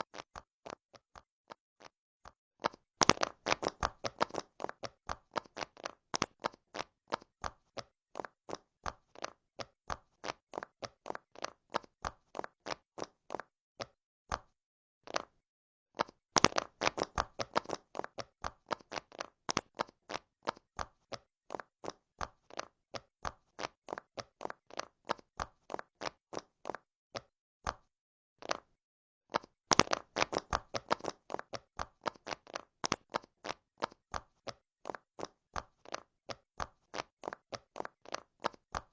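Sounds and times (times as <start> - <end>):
fidget toy bubbles popping: 0.0 - 15.4, 16.0 - 28.7, 29.3 - 38.9.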